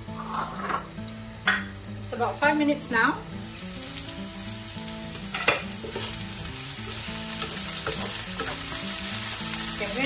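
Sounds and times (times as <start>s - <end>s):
cucumber sizzling in a pan: 0.0s - 10.0s
soft background music: 0.0s - 10.0s.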